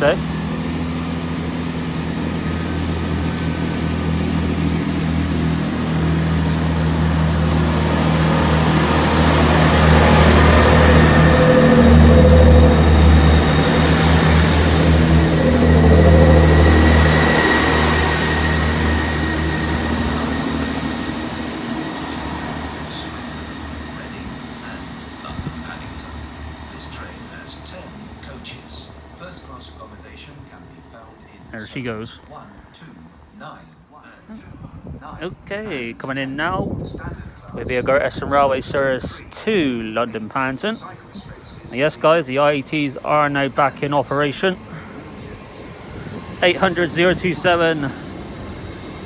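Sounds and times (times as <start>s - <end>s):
diesel train engines droning: 0.0s - 49.0s.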